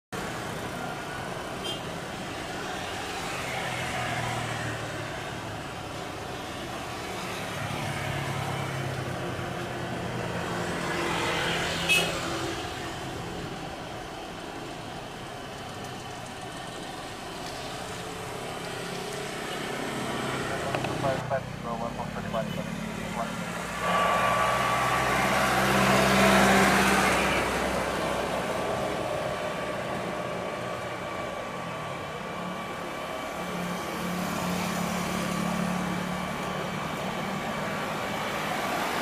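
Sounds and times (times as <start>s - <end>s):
road traffic noise: 0.1s - 39.0s.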